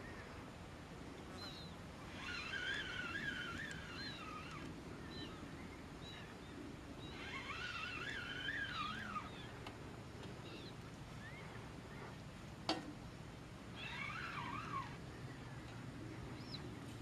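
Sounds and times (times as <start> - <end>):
faint songbird warbling: 1.3 - 12.2, 13.7 - 17.0.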